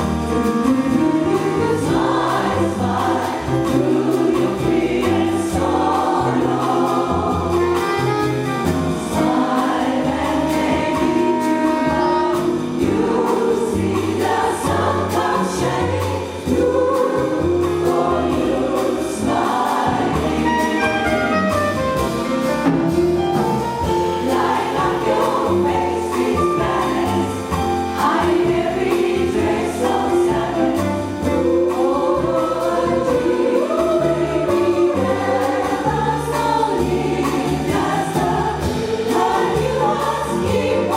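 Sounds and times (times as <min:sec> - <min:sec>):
jazz band with bass and drums: 0:00.0 - 0:40.9
jazz vocal chorus singing: 0:00.0 - 0:40.9.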